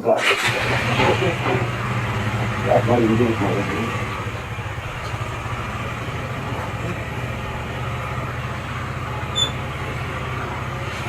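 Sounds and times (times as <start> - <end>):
motorcycle engine idling: 0.3 - 11.0.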